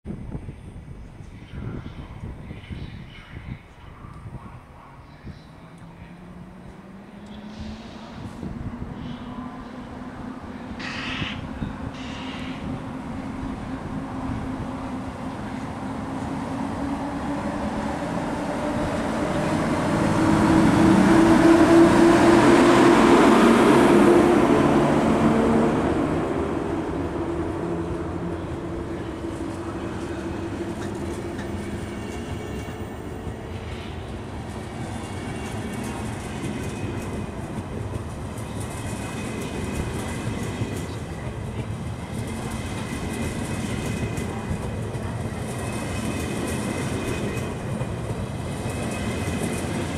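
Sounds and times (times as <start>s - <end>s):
electric locomotive humming: 0.1s - 49.9s
train wheels on rails: 5.3s - 49.9s.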